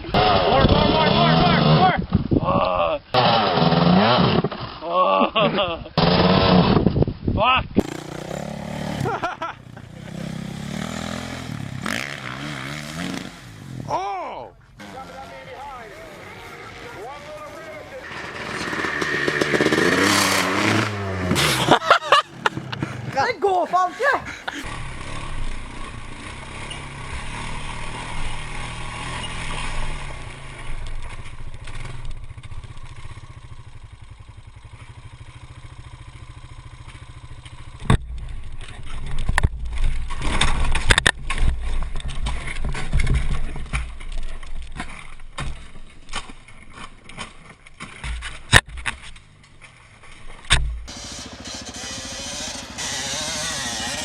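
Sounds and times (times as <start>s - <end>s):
motorcycle engines revving: 0.0s - 4.7s, 7.8s - 54.0s.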